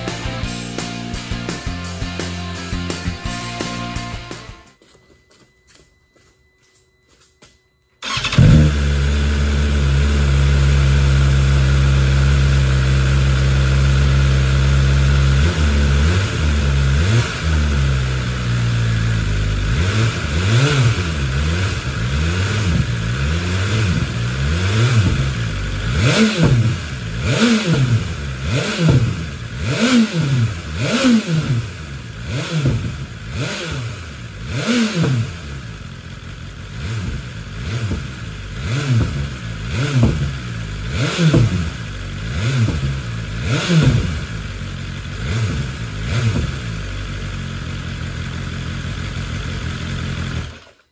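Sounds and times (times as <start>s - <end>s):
motorcycle engine revving: 8.0s - 50.9s.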